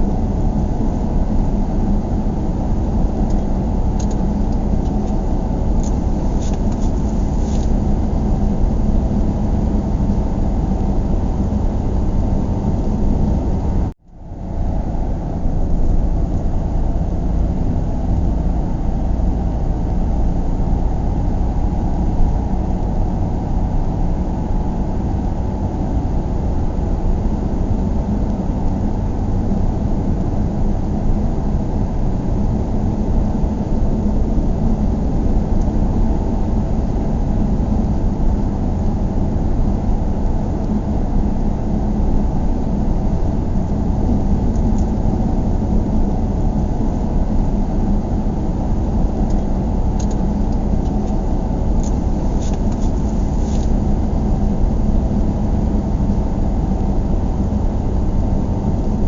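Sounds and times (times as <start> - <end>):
road and engine rumble in car: 0.0 - 59.0.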